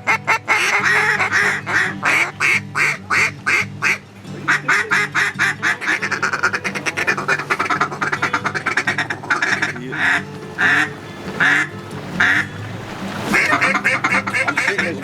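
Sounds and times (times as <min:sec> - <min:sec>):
duck quacking: 0:00.0 - 0:15.0.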